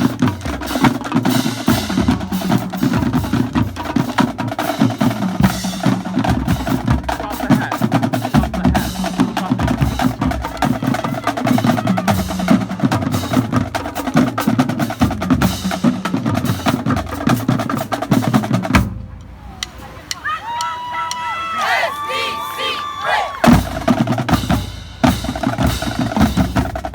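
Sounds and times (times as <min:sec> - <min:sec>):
marching drumline cadence: 0:00.0 - 0:26.9.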